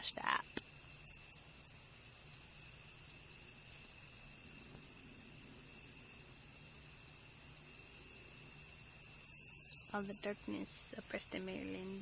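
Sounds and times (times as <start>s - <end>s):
high-pitched insect trill: 0.0s - 12.0s
lower insect trill: 0.0s - 12.0s.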